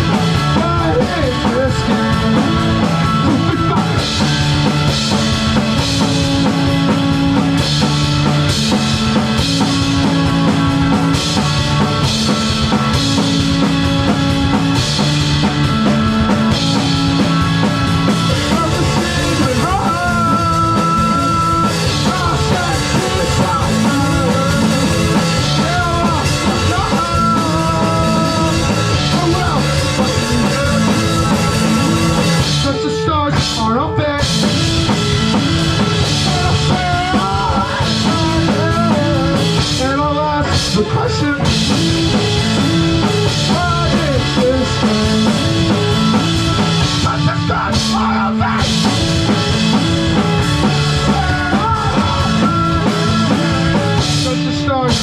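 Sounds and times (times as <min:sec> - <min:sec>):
sustained guitar chords: 0:00.0 - 0:33.2, 0:34.2 - 0:55.0
drum kit: 0:00.0 - 0:55.0
rock band playing live: 0:00.0 - 0:55.0.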